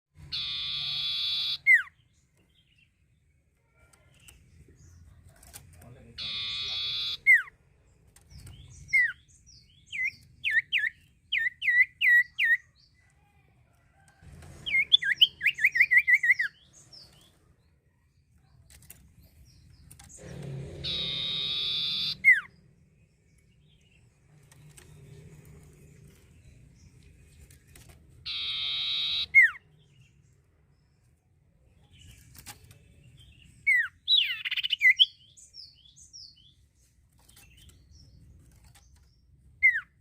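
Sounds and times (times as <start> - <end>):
small songbird chirping: 0.2 - 13.1, 14.7 - 40.0.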